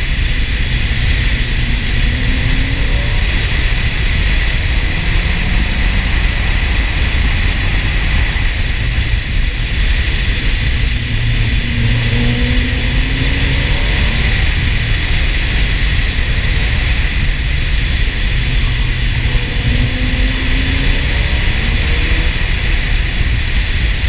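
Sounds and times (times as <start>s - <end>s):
car engine at speed: 0.0s - 24.0s
wind and road noise: 0.0s - 24.0s.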